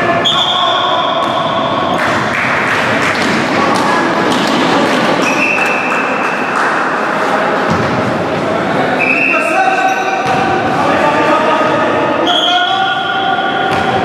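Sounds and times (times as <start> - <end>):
echoing players' voices: 0.0 - 14.0.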